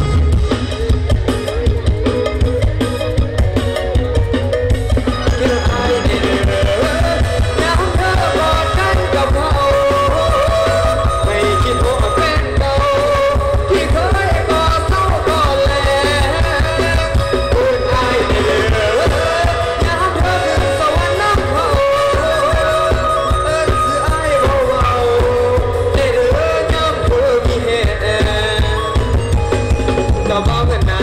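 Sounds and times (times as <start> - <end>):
live band music: 0.0 - 31.0
person singing: 5.1 - 31.0.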